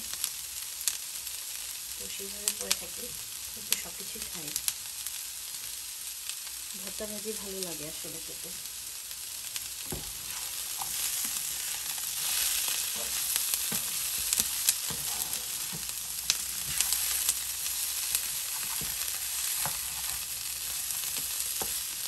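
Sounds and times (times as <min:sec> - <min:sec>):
vegetables sizzling in a pan: 0:00.0 - 0:22.0.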